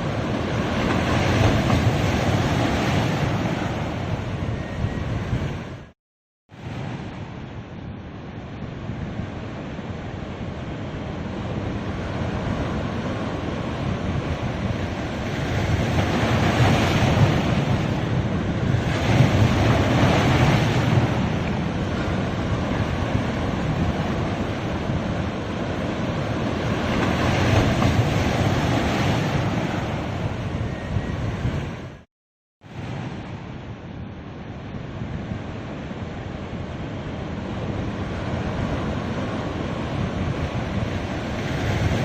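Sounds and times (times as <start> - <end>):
waves breaking on beach: 0.0 - 5.9, 6.5 - 32.0, 32.6 - 42.0
wind on microphone: 0.0 - 5.9, 6.5 - 32.0, 32.6 - 42.0.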